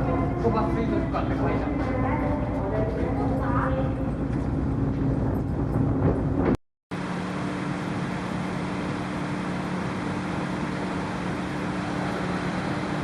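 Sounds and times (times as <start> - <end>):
ferry engine and machinery hum: 0.0 - 13.0.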